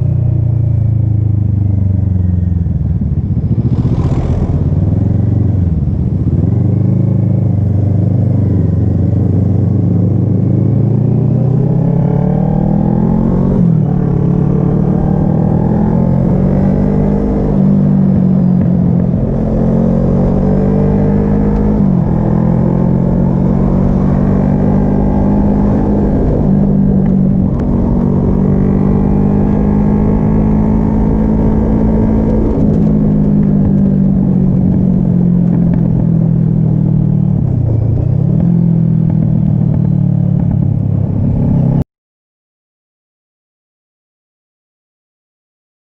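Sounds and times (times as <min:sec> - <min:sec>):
motorcycle engine accelerating through gears: 0:00.0 - 0:41.8.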